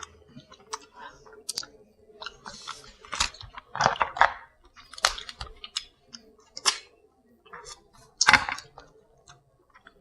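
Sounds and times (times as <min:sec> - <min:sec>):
person chewing and crunching: 0:00.0 - 0:10.0.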